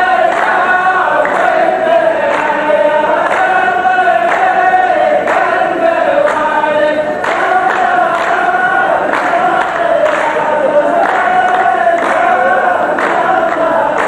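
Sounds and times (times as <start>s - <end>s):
men chanting in chorus: 0.0s - 14.0s.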